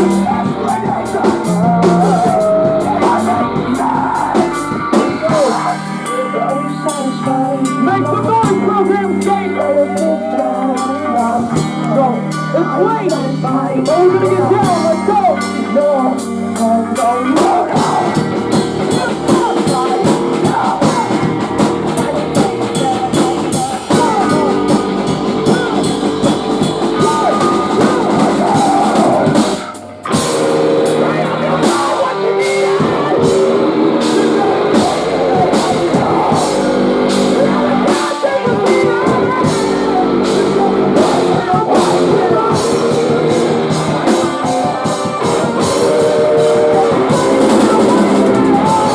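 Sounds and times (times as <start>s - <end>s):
distorted guitars: 0.0s - 48.9s
drum kit: 0.0s - 48.9s
vocals: 0.0s - 48.9s.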